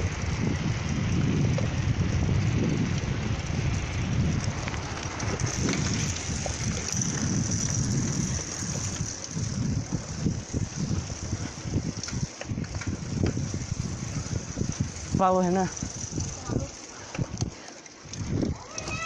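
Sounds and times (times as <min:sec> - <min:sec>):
tyres rumbling over rough road: 0:00.0 - 0:17.4
wind buffeting microphone: 0:00.0 - 0:19.0.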